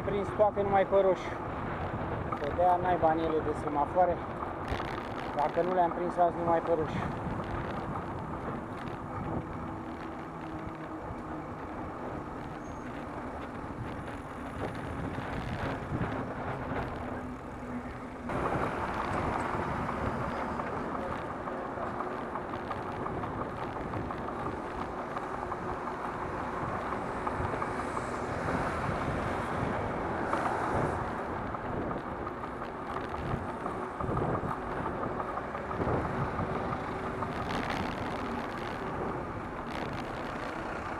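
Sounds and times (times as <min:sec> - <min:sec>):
car engines: 0:00.0 - 0:40.9
tyres on road: 0:00.0 - 0:40.9
wind on microphone: 0:06.7 - 0:21.3, 0:22.2 - 0:40.9.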